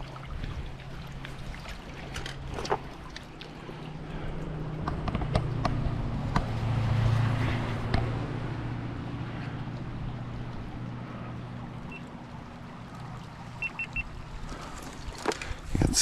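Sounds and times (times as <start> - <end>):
motor vehicle engine humming: 0.0 - 16.0.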